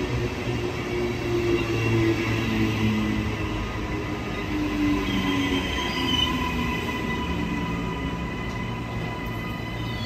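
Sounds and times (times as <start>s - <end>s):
low train rumble: 0.0s - 10.0s
train wheels squealing: 1.0s - 10.0s.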